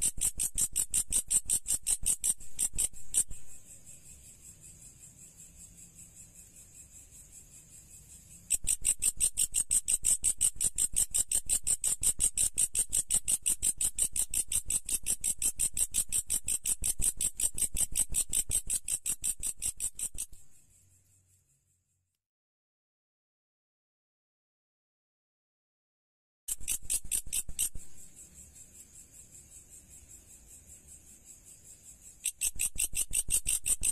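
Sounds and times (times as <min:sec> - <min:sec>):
grasshopper chirping: 0:00.0 - 0:22.0, 0:26.5 - 0:33.9.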